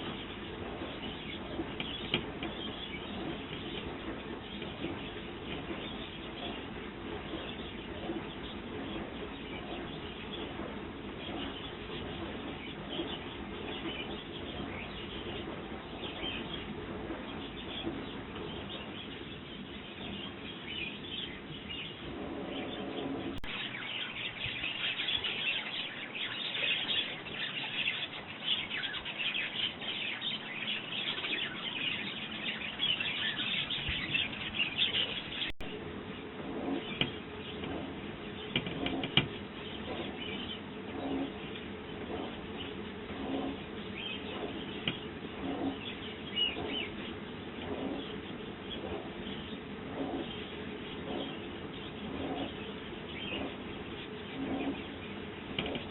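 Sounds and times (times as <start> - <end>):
sparrows chirping: 0.0 - 55.9.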